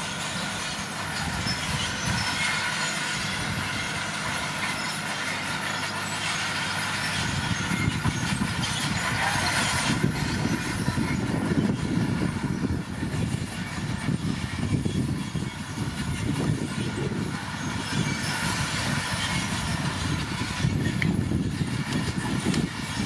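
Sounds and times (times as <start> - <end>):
diesel engine running: 0.0 - 23.0
steel tracks clattering and squealing: 0.0 - 23.0.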